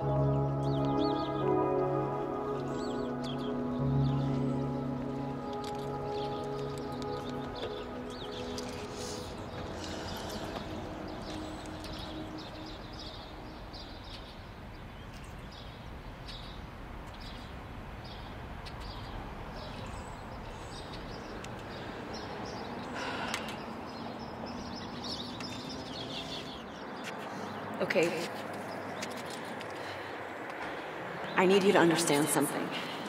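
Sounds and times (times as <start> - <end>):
small birds chirping: 2.3 - 33.0.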